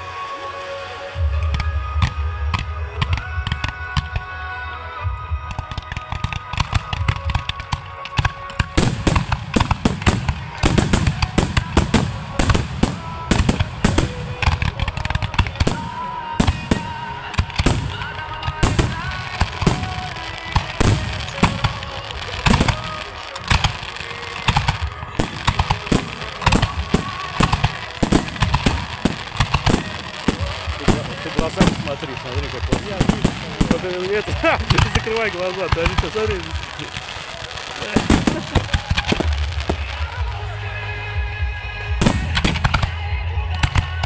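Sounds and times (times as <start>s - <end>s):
fireworks bursting and crackling: 0.0s - 44.0s
music: 0.0s - 44.0s.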